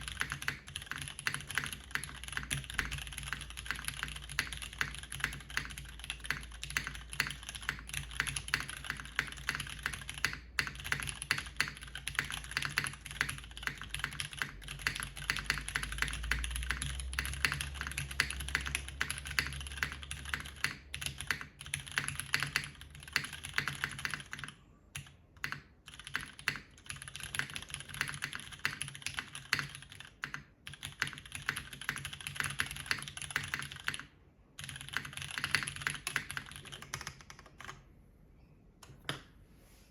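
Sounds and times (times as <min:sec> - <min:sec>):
fast typing on mechanical keyboard: 0:00.0 - 0:37.9.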